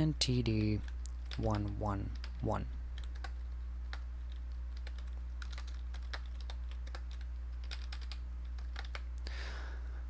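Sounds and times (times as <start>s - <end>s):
low electrical hum: 0.0s - 10.0s
computer keyboard typing: 0.3s - 9.1s.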